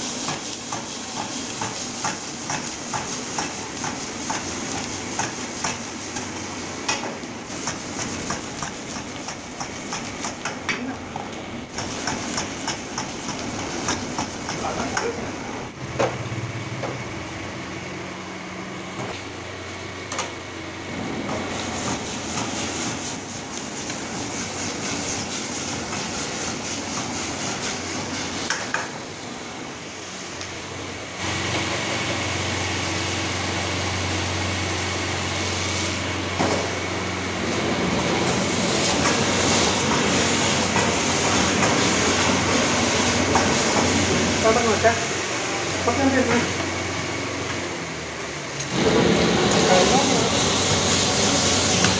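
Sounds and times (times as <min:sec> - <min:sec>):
chicken sizzling in a wok: 0:00.0 - 0:10.2, 0:11.7 - 0:18.8, 0:20.6 - 0:29.3, 0:29.9 - 0:51.9
gas burner roaring: 0:00.0 - 0:51.9.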